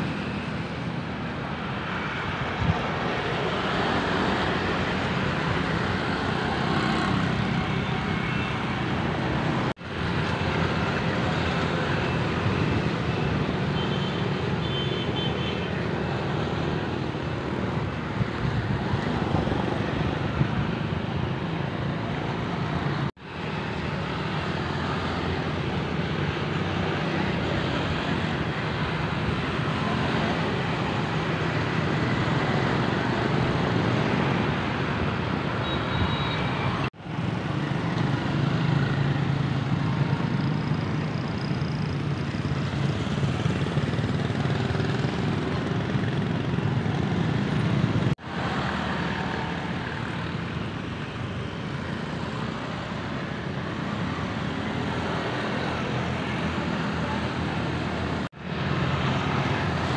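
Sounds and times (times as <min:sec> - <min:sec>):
motorbikes and scooters passing: 0:00.0 - 0:14.7, 0:15.6 - 0:59.9.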